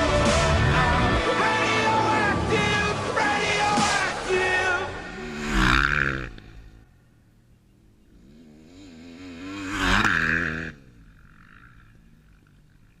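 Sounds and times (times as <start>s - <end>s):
motocross bike engine revving: 0.0s - 6.8s, 8.0s - 13.0s.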